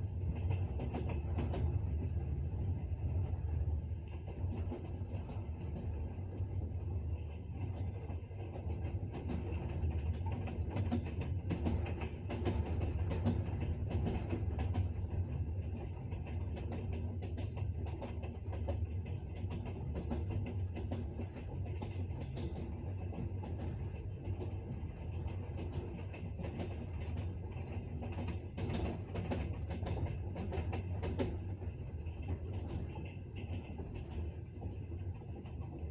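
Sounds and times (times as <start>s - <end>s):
train low rumble: 0.0s - 35.9s
train wheels clacking over rails: 0.0s - 35.9s.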